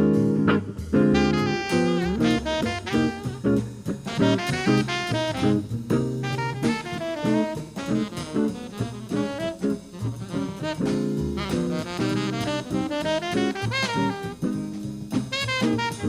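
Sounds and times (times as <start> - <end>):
drum kit: 0.0 - 16.0
jazz band playing: 0.0 - 16.0
saxophone melody: 1.0 - 16.0.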